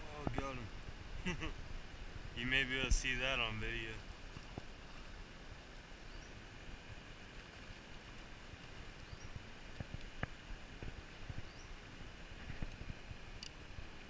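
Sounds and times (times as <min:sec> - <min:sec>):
river hissing: 0:00.0 - 0:14.0.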